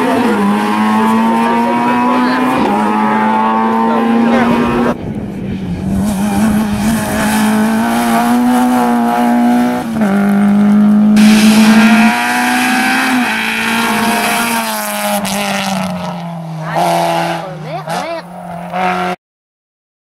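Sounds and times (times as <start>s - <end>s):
rally car engines revving: 0.0s - 19.2s.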